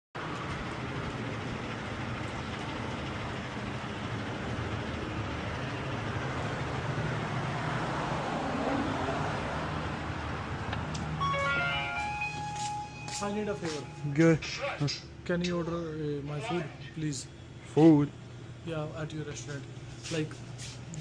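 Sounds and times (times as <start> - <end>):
low engine hum with hiss: 0.2 - 21.0.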